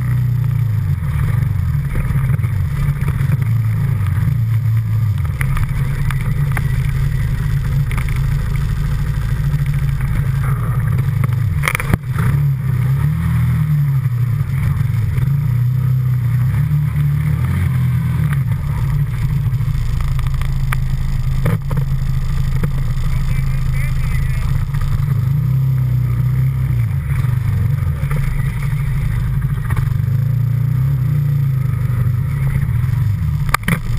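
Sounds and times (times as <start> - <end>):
atv engine revving: 0.0 - 33.9.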